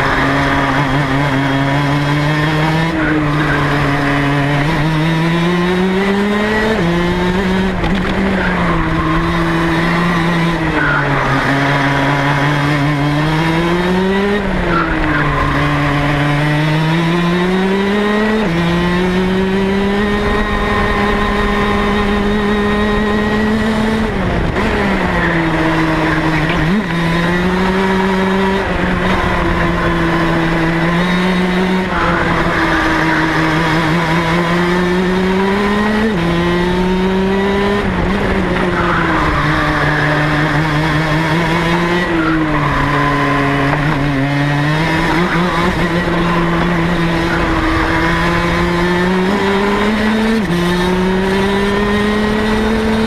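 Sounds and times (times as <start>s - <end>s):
kart engine running hard: 0.0s - 53.0s.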